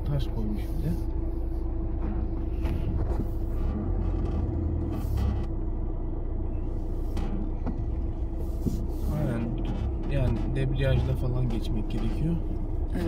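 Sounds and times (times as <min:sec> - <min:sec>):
car engine and tyre rumble: 0:00.0 - 0:13.0
knocks and rattles over bumps: 0:01.1 - 0:13.0.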